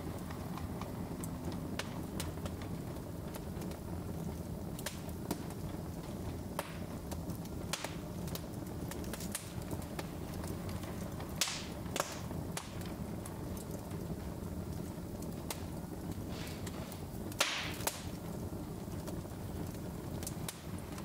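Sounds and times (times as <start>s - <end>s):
fire crackling: 0.0s - 21.0s
fire flames rumbling: 0.0s - 21.0s
wood fire popping with hiss: 0.0s - 21.0s.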